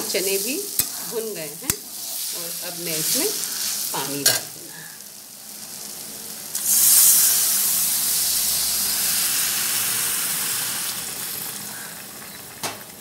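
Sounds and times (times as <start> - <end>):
water hissing in hot pan: 0.0 - 13.0.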